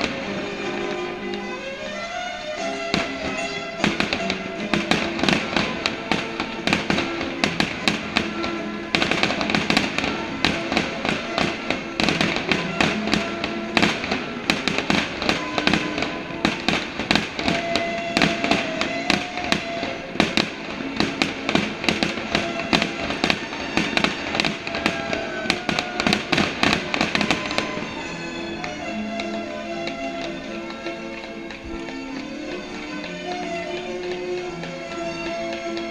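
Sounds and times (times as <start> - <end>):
fireworks bangs: 0.0 - 35.9
music playing: 0.0 - 35.9.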